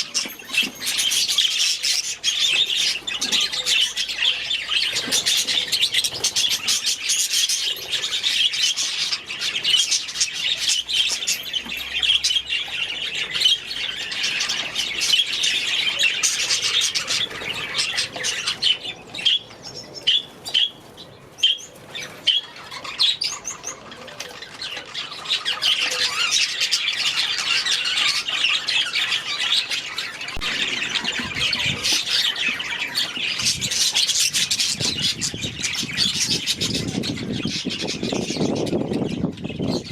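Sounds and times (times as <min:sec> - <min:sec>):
budgerigars chattering: 0:00.0 - 0:20.8, 0:21.4 - 0:39.9.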